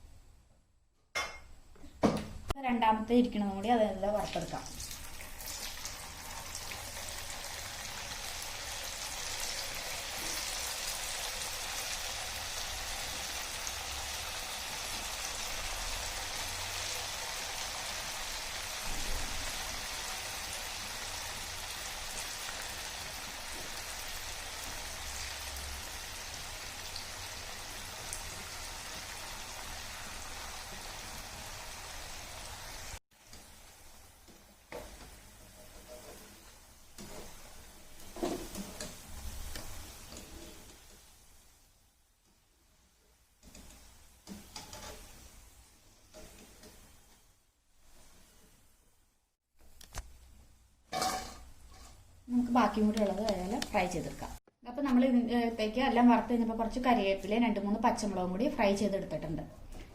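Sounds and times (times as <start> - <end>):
batter deep-frying in hot oil: 2.8 - 59.9.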